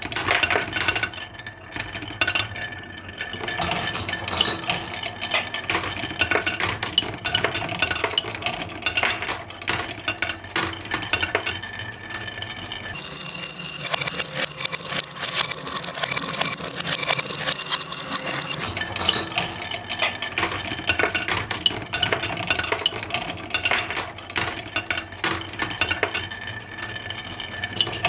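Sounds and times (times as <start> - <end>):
marbles clattering down a track: 3.4 - 28.0.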